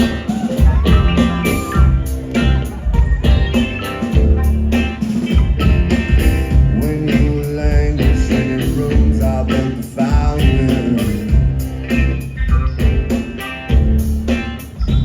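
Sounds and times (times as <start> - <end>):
drums keeping a steady beat: 0.0 - 15.0
live band playing: 0.0 - 15.0.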